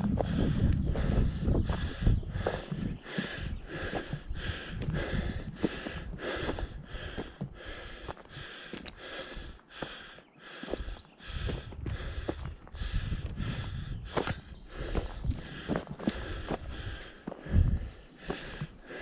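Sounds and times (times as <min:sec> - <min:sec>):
footfalls on dirt trail: 0:00.0 - 0:10.0, 0:10.6 - 0:18.7
hard breathing: 0:00.0 - 0:19.0.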